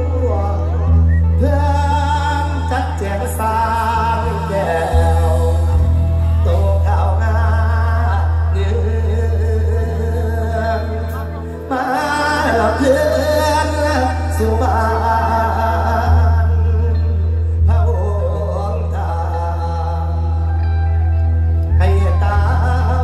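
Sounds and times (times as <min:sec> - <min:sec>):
deep bass: 0:00.0 - 0:23.0
live band accompaniment: 0:00.0 - 0:23.0
man singing through microphone: 0:00.0 - 0:23.0.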